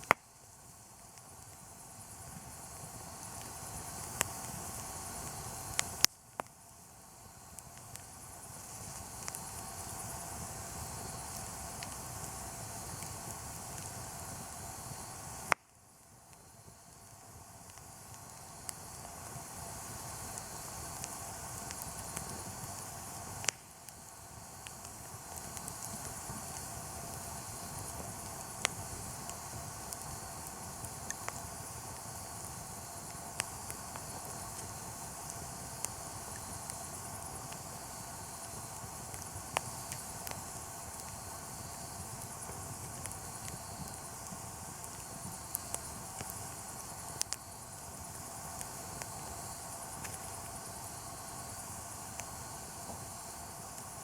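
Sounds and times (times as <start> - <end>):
campfire crackling: 0.0 - 54.0
steady hiss: 0.0 - 54.0
fire popping: 1.3 - 6.1, 7.3 - 15.6, 16.6 - 54.0.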